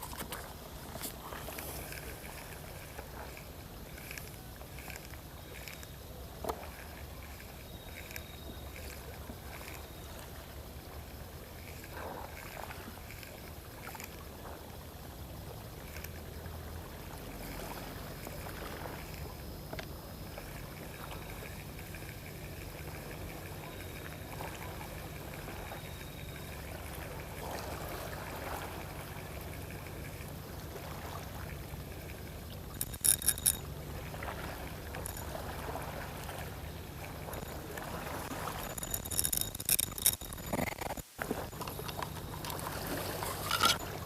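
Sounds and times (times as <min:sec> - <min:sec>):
sea water lapping at shore: 0:00.0 - 0:44.0
steady low hum: 0:00.0 - 0:44.0.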